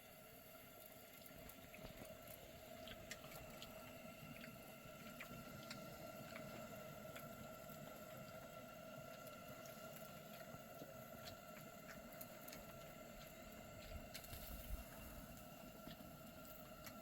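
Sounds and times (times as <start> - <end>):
small ticks: 0.8 - 8.4, 9.0 - 17.0.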